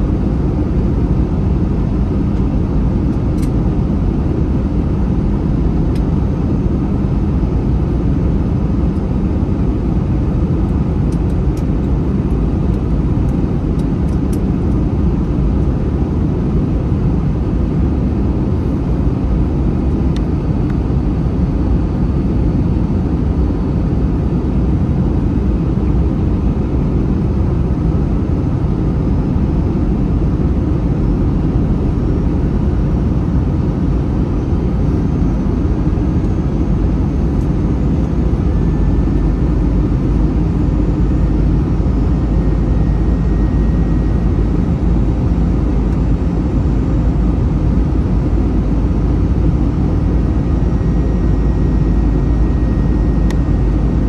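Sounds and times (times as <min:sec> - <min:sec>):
airliner cabin engine noise: 0:00.0 - 0:54.0.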